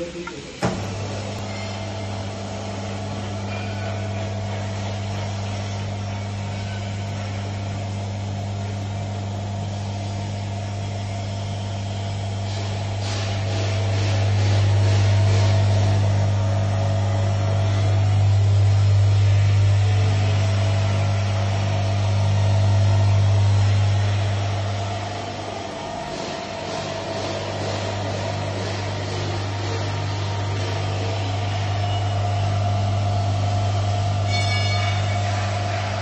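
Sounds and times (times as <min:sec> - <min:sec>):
vacuum pump humming: 0:00.0 - 0:36.0.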